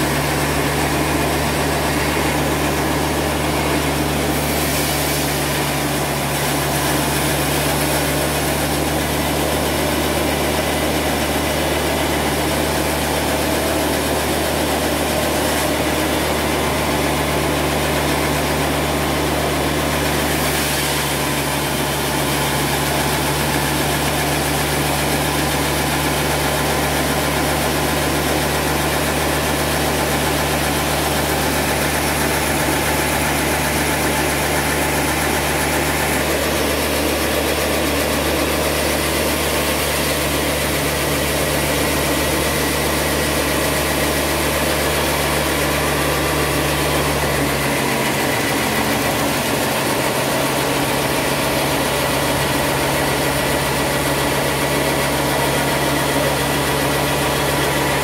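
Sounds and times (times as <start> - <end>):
band saw rushing noise: 0.0 - 58.0
engine low hum: 0.0 - 58.0.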